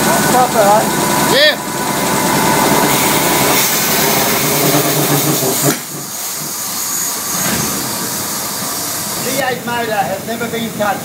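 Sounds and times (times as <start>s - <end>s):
compressor engine humming: 0.0s - 11.0s.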